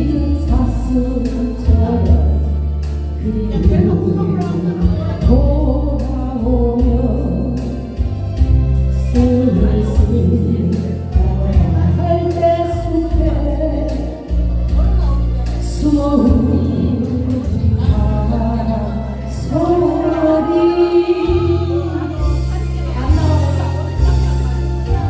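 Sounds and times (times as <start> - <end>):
karaoke backing track with drums: 0.0 - 25.0
person singing a ballad: 0.0 - 25.0.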